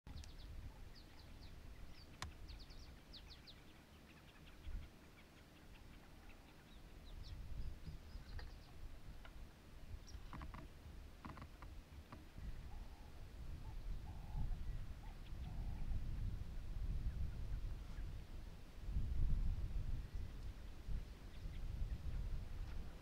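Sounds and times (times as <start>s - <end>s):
small birds chirping: 0.1s - 18.2s, 20.0s - 23.0s.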